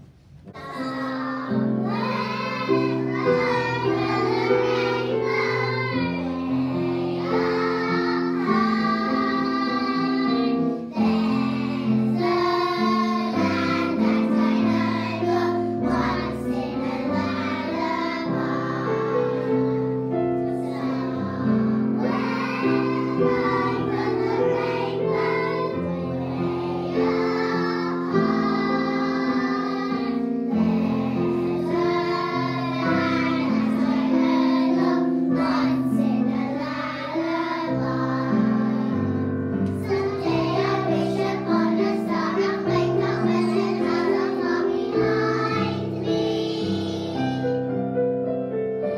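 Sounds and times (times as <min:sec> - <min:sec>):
children singing in unison: 0:00.5 - 0:47.6.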